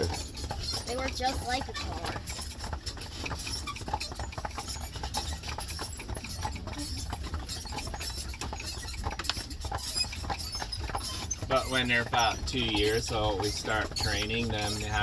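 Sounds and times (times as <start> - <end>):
buggy wheels rumbling: 0.0 - 15.0
horse hooves clip-clopping on road: 0.0 - 15.0.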